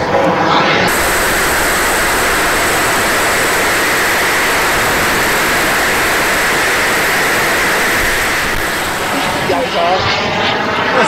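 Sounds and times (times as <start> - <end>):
high steady whine: 0.0 - 11.0
turbine jet engines roaring: 0.0 - 11.0.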